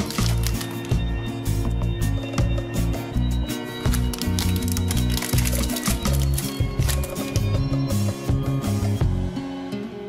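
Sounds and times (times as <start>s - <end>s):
background music with bass: 0.0s - 9.8s.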